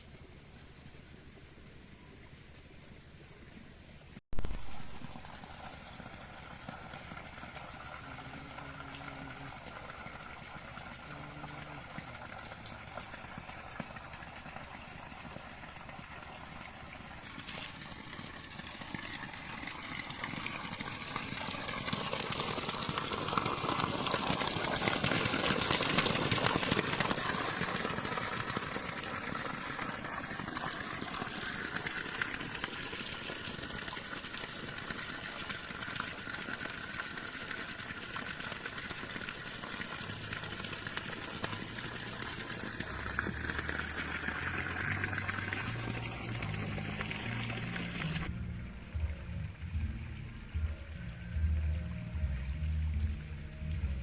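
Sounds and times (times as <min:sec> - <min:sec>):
spring water flowing and splashing: 0:04.4 - 0:54.0.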